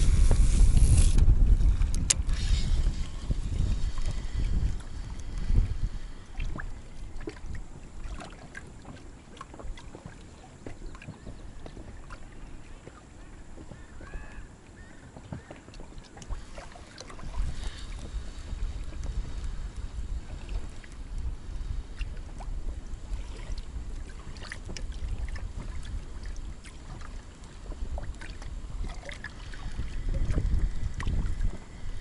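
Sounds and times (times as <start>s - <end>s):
water lapping against boat hull: 0.0s - 32.0s
wind buffeting microphone: 0.0s - 32.0s.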